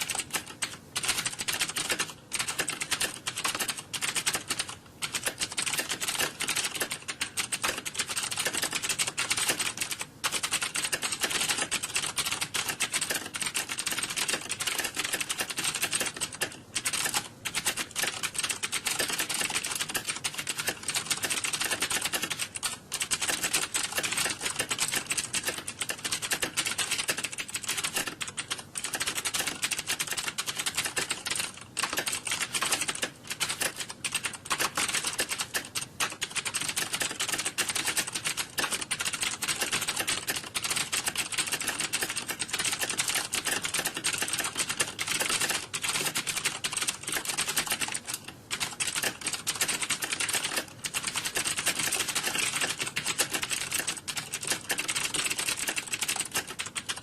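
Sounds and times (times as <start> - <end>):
computer keyboard typing: 0.0 - 57.0.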